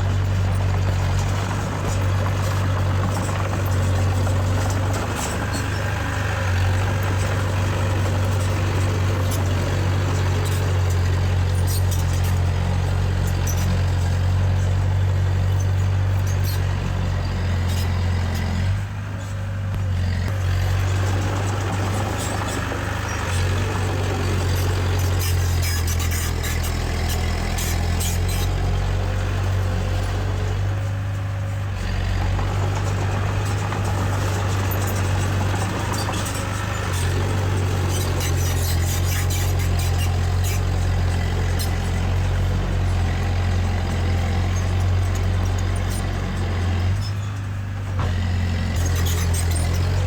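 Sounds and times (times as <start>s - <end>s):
heavy diesel engine humming: 0.0s - 50.0s.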